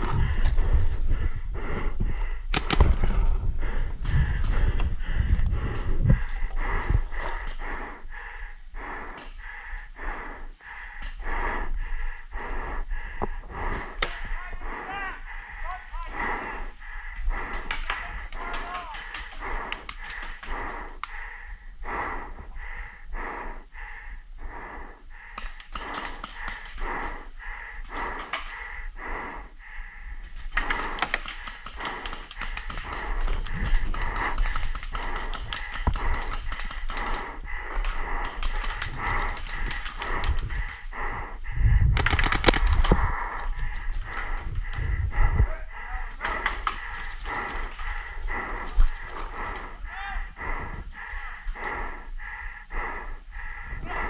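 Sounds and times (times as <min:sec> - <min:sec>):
heavy panting behind mask: 0:00.0 - 0:54.0.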